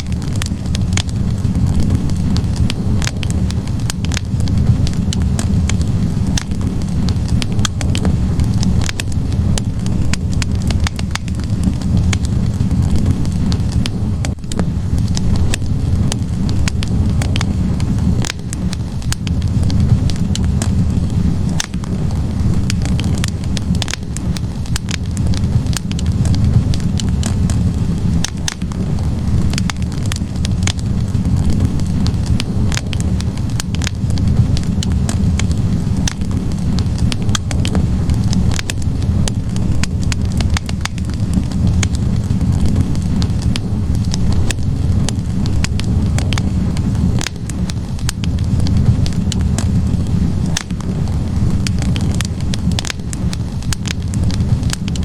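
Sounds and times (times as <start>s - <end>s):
low rush of flame: 0.0s - 55.0s
wood fire crackling and popping: 0.0s - 55.0s.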